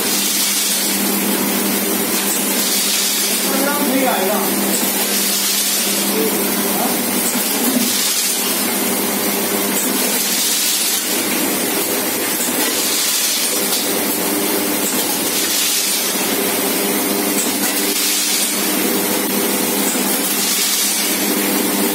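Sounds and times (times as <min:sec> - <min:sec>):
packing machine hum: 0:00.0 - 0:21.9.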